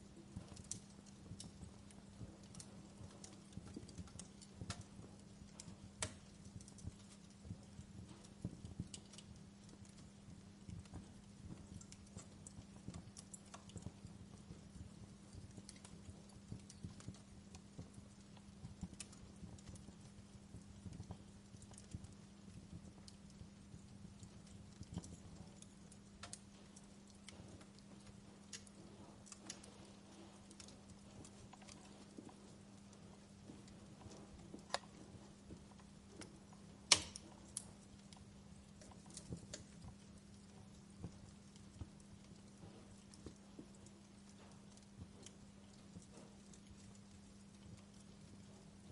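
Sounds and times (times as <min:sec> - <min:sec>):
faint low hum: 0:00.0 - 0:48.9
fire crackling with pops: 0:00.0 - 0:48.9.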